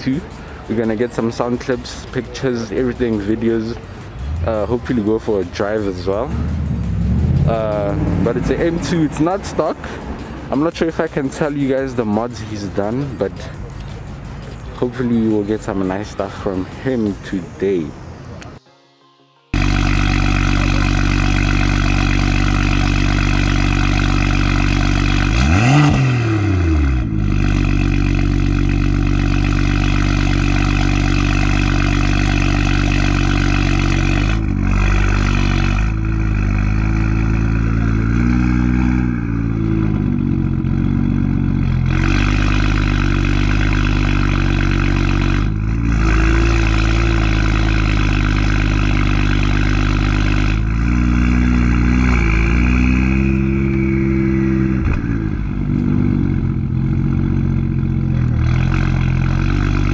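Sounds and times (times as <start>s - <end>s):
car engine idling and revving: 0.0s - 18.6s, 19.5s - 59.9s.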